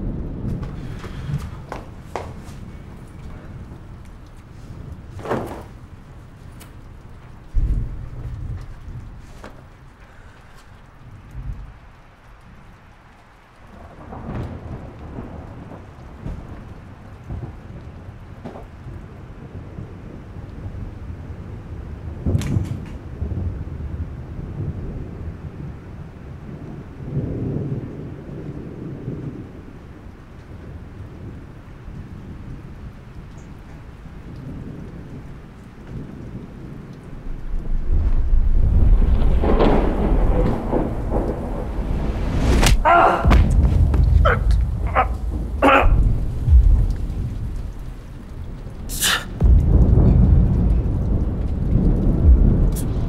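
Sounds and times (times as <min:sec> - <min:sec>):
low rumbling thunder: 0:00.0 - 0:53.0
steady rain: 0:00.0 - 0:53.0.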